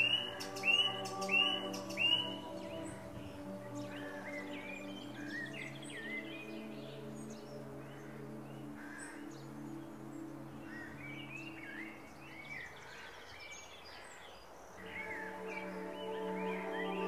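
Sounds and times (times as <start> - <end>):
ambient music chord: 0.0 - 13.0, 14.8 - 17.0
birds singing: 0.0 - 17.0.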